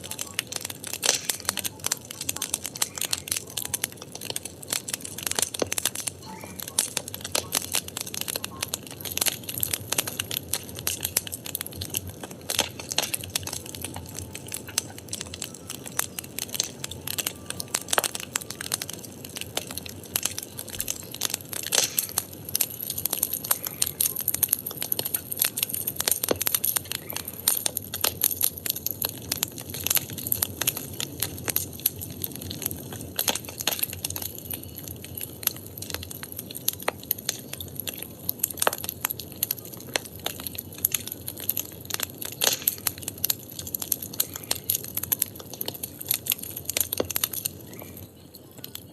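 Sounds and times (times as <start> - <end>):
fire hissing: 0.0 - 48.1
firewood crackling and popping: 0.0 - 48.9.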